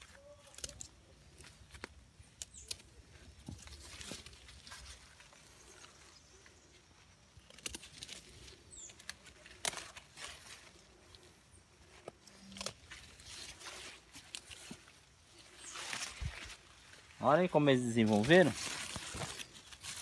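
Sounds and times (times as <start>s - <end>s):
plants rustling: 0.0s - 20.0s.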